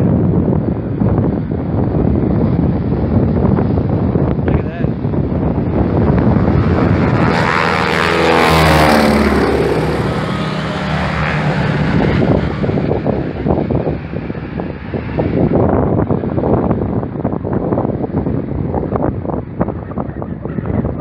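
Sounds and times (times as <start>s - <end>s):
propeller plane fly-by: 0.0s - 21.0s
wind buffeting microphone: 0.0s - 21.0s.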